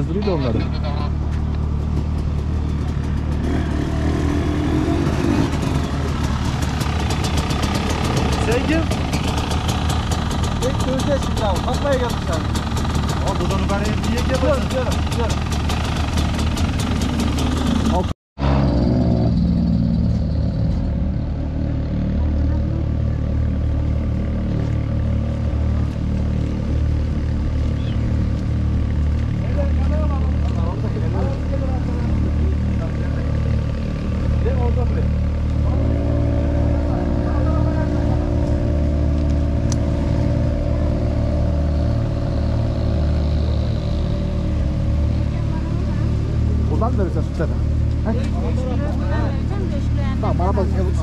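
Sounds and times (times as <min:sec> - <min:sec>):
vehicle engine rumbling: 0:00.0 - 0:51.0.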